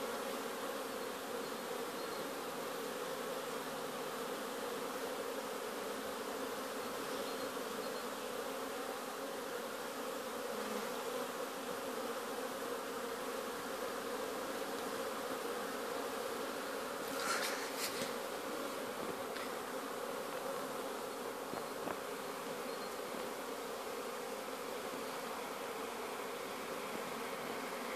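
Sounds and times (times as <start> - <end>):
honey bees buzzing: 0.0 - 27.9.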